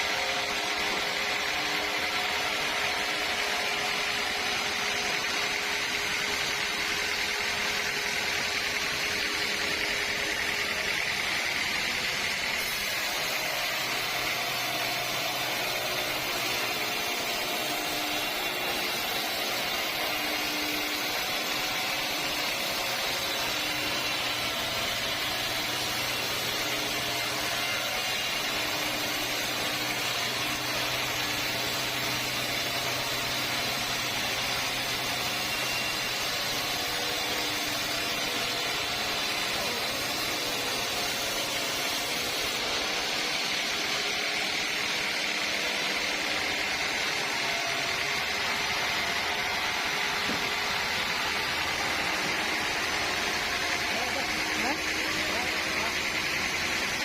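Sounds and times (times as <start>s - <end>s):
sawmill saw whining: 0.0s - 57.0s.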